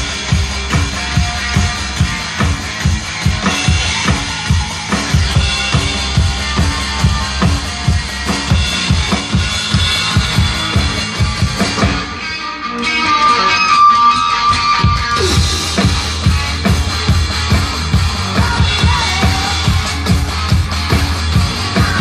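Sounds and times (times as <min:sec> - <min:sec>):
electronic drum beat: 0:00.0 - 0:12.1, 0:14.8 - 0:22.0
guitar music: 0:00.0 - 0:22.0.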